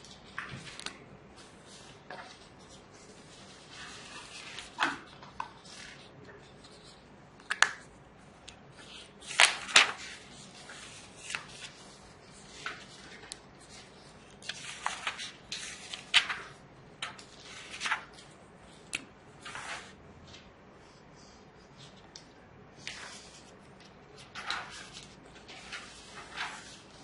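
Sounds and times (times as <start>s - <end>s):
book pages turning: 0.0s - 7.9s, 8.7s - 20.5s, 21.6s - 27.0s.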